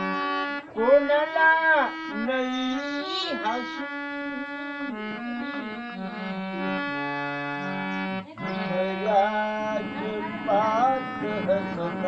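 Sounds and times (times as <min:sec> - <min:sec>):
elderly man singing: 0:00.0 - 0:07.2, 0:07.9 - 0:12.0.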